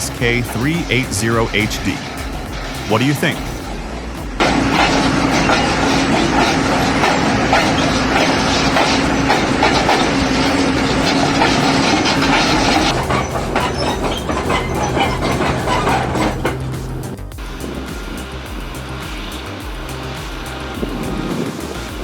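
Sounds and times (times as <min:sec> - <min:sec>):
hydraulic whine: 0:00.0 - 0:22.0
low hum: 0:00.0 - 0:22.0
track links clanking: 0:00.0 - 0:22.0.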